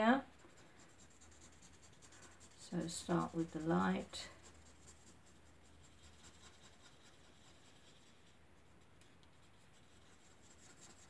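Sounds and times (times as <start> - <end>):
low steady hum: 0.0 - 11.0
marker scratching on card: 0.3 - 8.4, 9.3 - 11.0.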